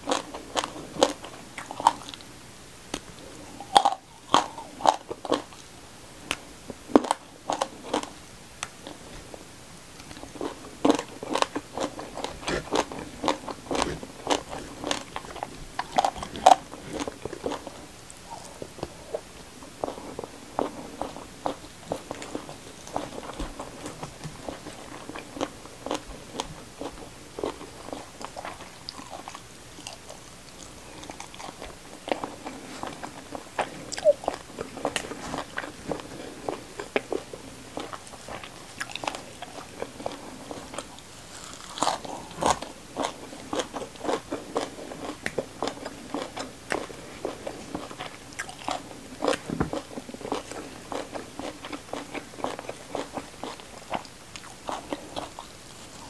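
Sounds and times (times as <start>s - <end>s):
chewing with crisp crunches: 0.0s - 2.3s, 2.9s - 5.7s, 6.3s - 56.0s.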